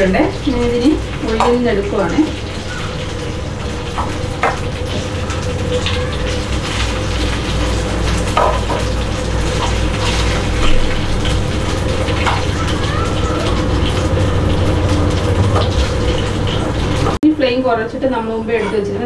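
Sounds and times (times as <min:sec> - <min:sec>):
oil sizzling in frying pan: 0:00.0 - 0:17.2.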